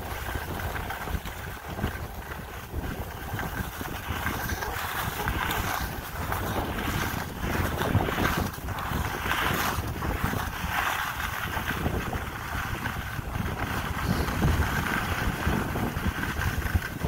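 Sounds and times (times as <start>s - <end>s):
skis sliding over snow: 0.0s - 17.0s
wind buffeting microphone: 0.0s - 17.0s.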